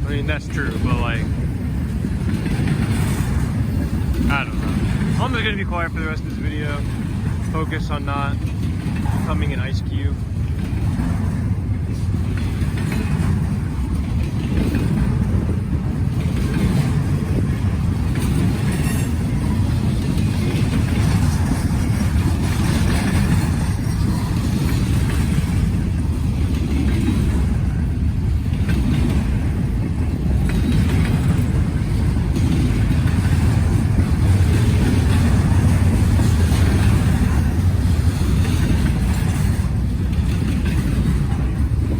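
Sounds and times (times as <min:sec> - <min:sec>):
freight train rumbling on rails: 0:00.0 - 0:41.9
wind buffeting microphone: 0:00.0 - 0:41.9.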